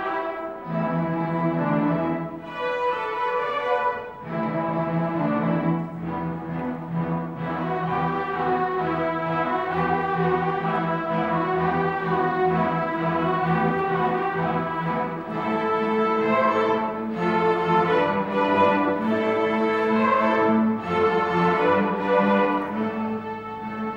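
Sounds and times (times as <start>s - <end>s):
string orchestra playing: 0.0s - 23.9s.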